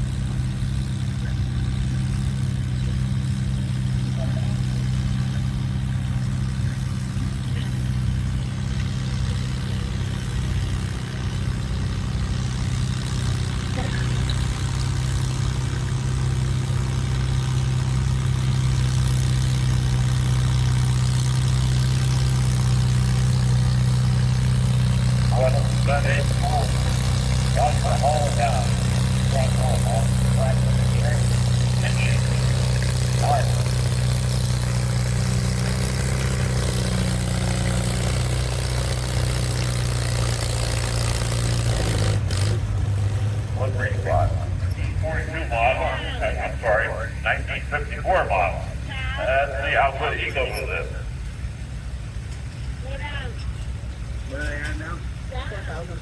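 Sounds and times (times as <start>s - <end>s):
tractor engine humming: 0.0s - 56.0s.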